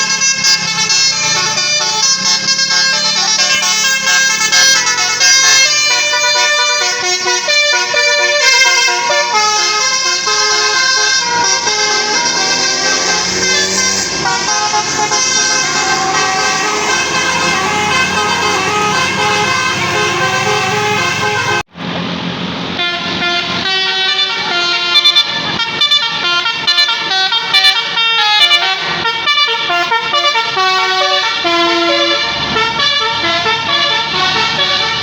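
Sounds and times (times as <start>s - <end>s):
musical bus horn tune: 0.0s - 21.7s, 22.7s - 35.0s.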